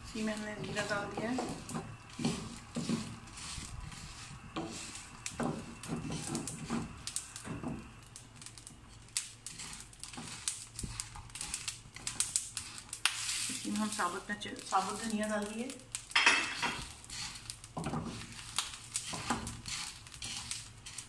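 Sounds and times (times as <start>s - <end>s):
dry spices rattling in a pan: 0.0s - 21.0s.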